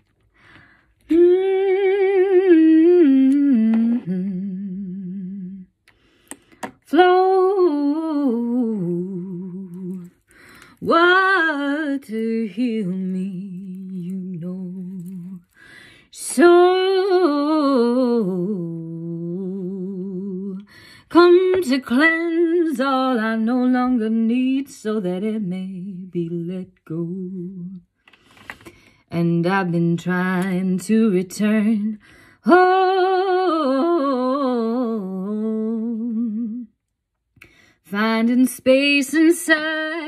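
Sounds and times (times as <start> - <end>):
woman singing without words: 0.5 - 5.9, 6.7 - 27.9, 29.0 - 36.8, 37.4 - 40.0.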